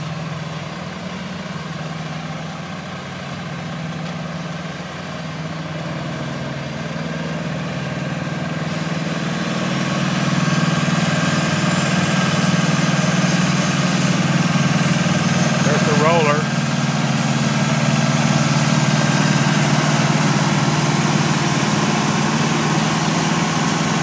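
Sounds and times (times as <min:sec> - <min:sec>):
heavy paving machinery engines: 0:00.0 - 0:24.0.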